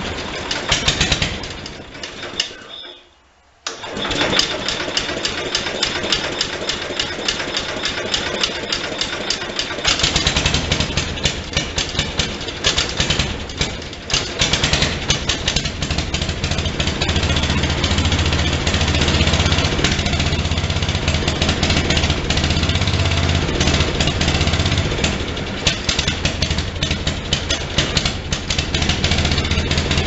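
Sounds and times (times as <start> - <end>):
single-cylinder engine chuffing: 0.0 - 2.6, 3.8 - 30.0.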